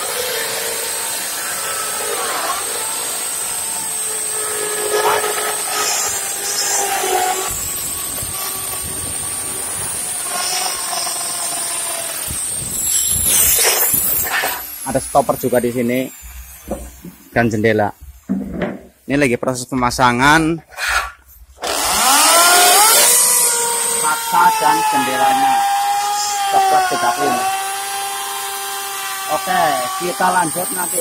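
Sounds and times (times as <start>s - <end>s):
electric drill whining: 0.0s - 17.4s, 21.6s - 31.0s.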